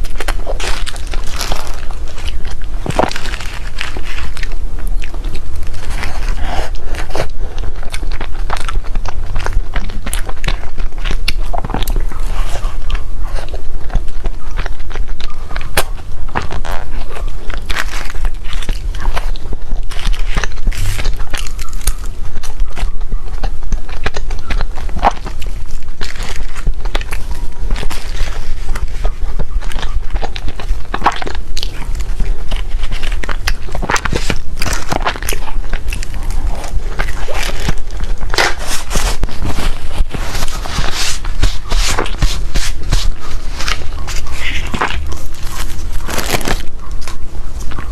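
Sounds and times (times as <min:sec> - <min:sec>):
person biting and chewing cake: 0:00.0 - 0:47.9
wet mouth noises: 0:00.0 - 0:47.9.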